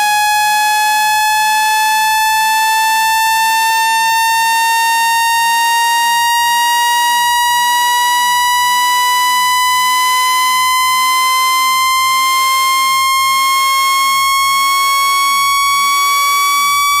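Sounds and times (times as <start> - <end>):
buzzy electronic tone: 0.0 - 17.0.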